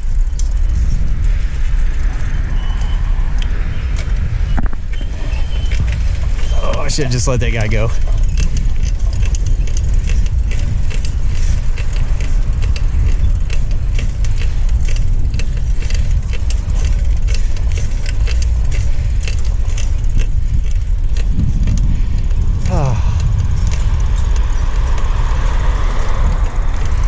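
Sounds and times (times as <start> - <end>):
low rumble: 0.0 - 27.0
cart rattling and clanking: 4.6 - 27.0.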